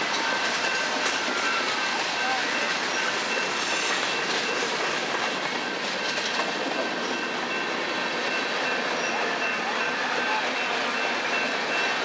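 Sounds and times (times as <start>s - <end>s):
freight train wheels rolling: 0.0s - 12.0s.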